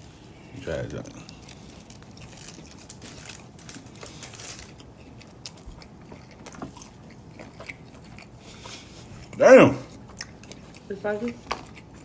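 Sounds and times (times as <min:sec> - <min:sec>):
person chewing a wrap: 0:00.0 - 0:12.0.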